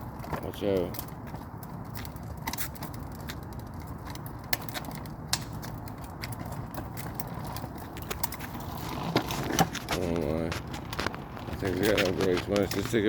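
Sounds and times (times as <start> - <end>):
clicks and crackles: 0.0 - 13.0.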